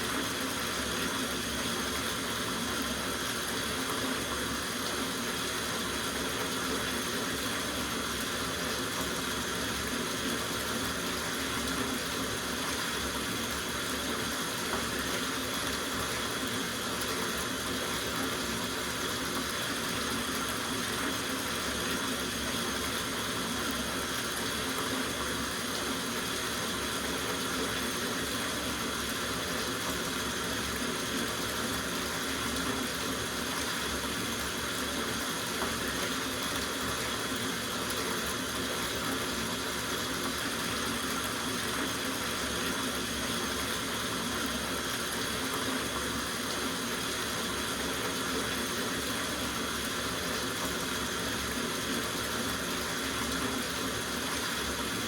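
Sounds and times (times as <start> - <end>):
tap water running into bathtub: 0.0 - 55.0.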